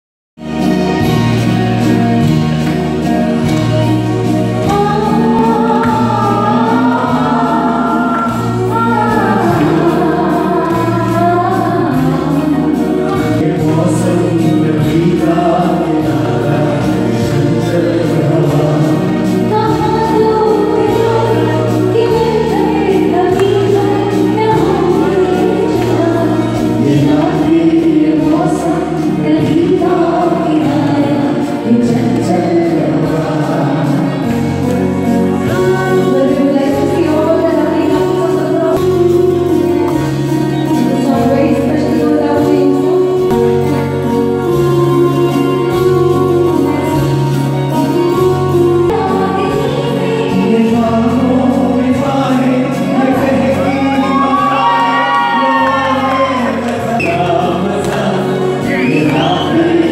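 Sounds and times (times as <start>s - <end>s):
backing music with bass line: 0.4s - 59.9s
people singing a duet: 3.5s - 59.9s.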